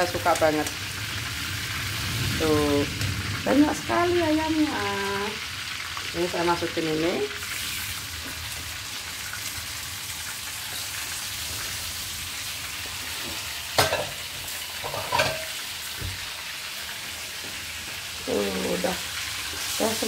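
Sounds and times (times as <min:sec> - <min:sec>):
chicken frying in oil: 0:00.0 - 0:20.0.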